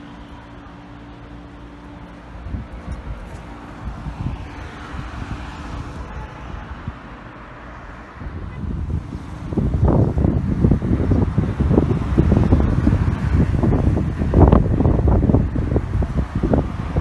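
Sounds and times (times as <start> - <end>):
light street traffic: 0.0 - 17.0
wind buffeting microphone: 1.4 - 17.0.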